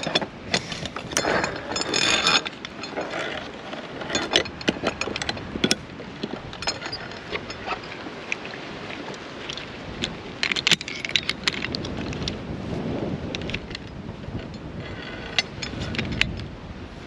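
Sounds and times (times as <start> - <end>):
metal carabiner clanks: 0.0 - 12.4, 13.2 - 16.6
trolley rolling along cable: 0.0 - 17.0
wind on microphone: 0.0 - 17.0.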